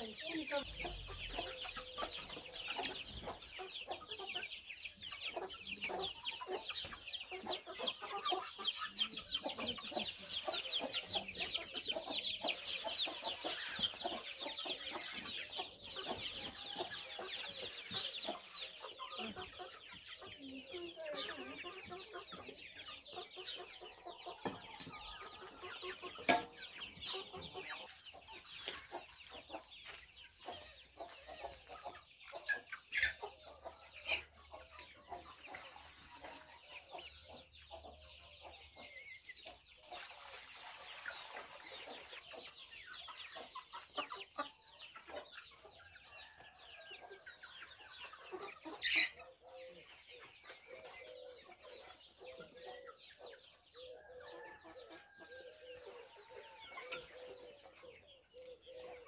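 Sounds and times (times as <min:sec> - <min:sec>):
hens clucking: 0:00.0 - 0:59.0.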